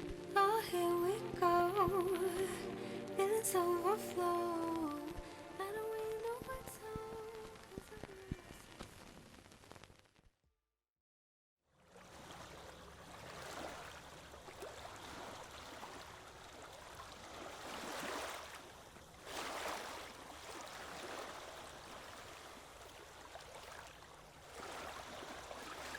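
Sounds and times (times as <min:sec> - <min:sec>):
faint water washing: 0:00.0 - 0:08.6, 0:11.7 - 0:25.9.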